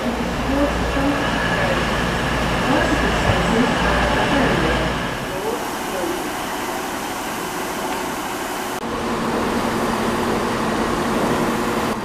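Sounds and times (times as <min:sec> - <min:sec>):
diesel railcar engine idling: 0:00.0 - 0:12.0.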